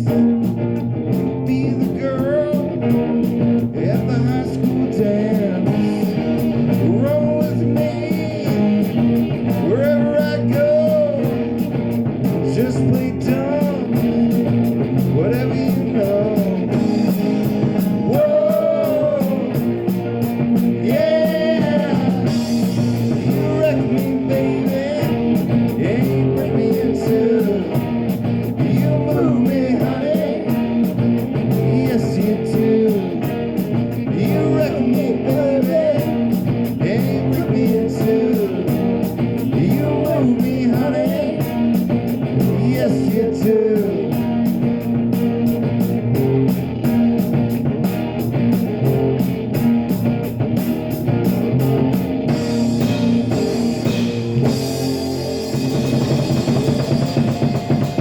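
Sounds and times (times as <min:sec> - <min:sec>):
bass guitar: 0:00.0 - 0:58.0
drums: 0:00.0 - 0:58.0
electric guitar bending notes: 0:00.0 - 0:58.0.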